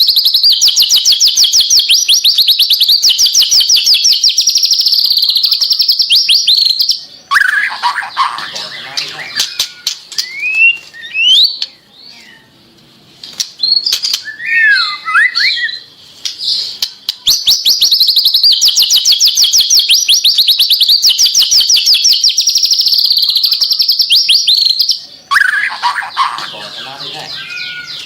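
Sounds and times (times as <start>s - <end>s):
songbird singing whistled phrases: 0.0s - 12.6s, 13.6s - 28.0s.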